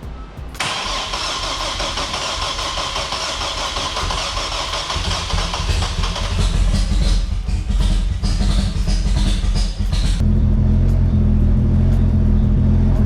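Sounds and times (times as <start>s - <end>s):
car engine starting and running: 0.6s - 13.0s.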